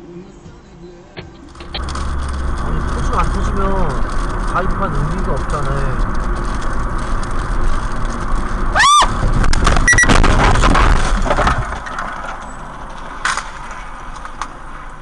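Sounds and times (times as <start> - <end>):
car road and engine noise: 0.0 - 15.0
loud noisy stretch: 1.5 - 15.0.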